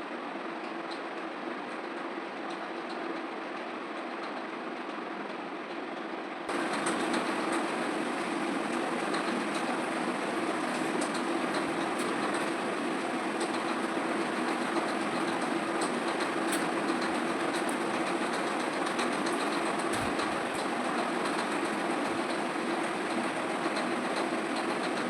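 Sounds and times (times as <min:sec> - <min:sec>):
electric fan whirring: 0:00.0 - 0:25.0.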